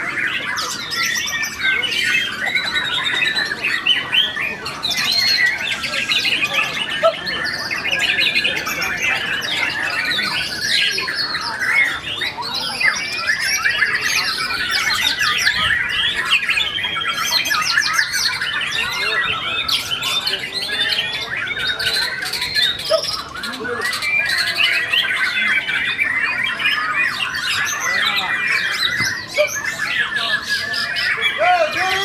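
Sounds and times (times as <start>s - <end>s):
birds singing in chorus: 0.0s - 32.0s.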